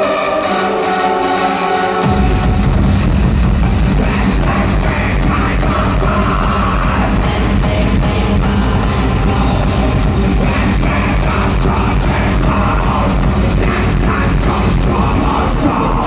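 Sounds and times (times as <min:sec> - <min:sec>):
heavy electronic beat: 0:00.0 - 0:16.0.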